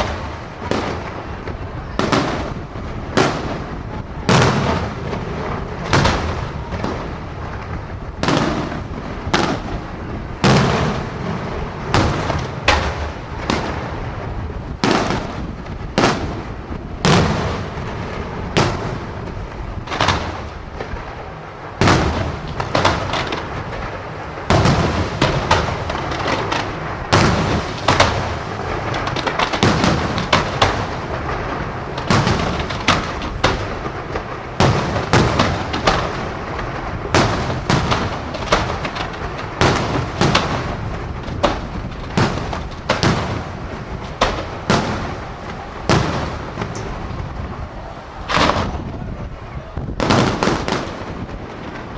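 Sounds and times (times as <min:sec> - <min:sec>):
fireworks bursting with loud bangs: 0:00.0 - 0:51.9
fireworks crackling: 0:00.0 - 0:51.9.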